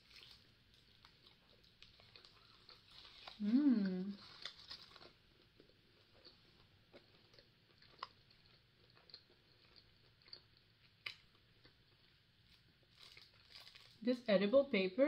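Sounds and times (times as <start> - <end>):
faint close-up chewing: 0.0 - 14.0.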